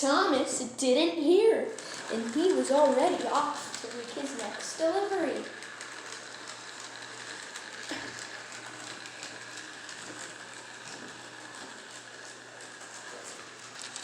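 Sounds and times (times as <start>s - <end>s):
toy train whirring: 1.6s - 14.0s
toy train track clicks: 1.7s - 14.0s.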